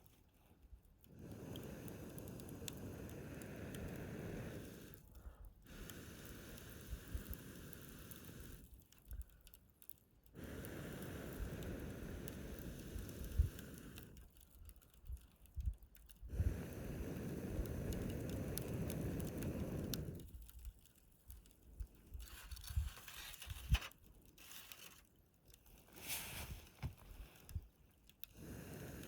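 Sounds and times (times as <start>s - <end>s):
fire popping: 0.0s - 29.0s
wood fire crackling: 0.0s - 29.0s.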